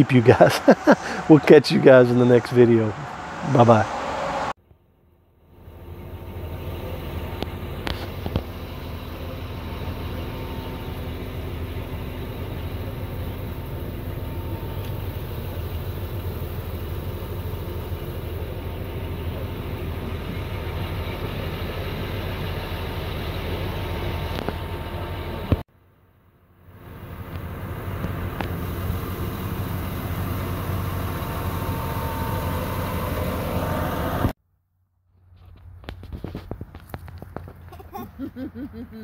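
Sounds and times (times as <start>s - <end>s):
low engine rumble: 0.0s - 34.4s, 35.2s - 39.0s.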